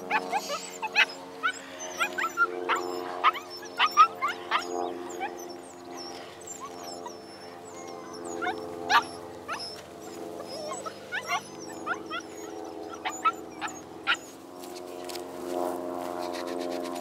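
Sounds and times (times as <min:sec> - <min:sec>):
puppies yipping and whimpering: 0:00.0 - 0:15.2, 0:16.0 - 0:17.0.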